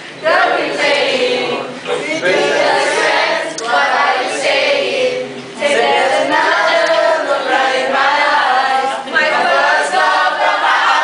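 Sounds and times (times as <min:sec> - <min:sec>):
crowd singing: 0:00.0 - 0:11.0.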